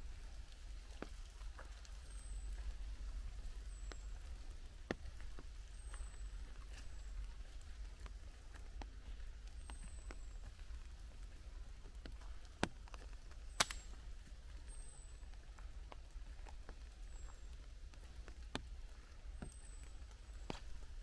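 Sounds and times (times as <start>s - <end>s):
low steady rumble: 0.0s - 21.0s
raindrops tapping on leaves: 0.0s - 21.0s.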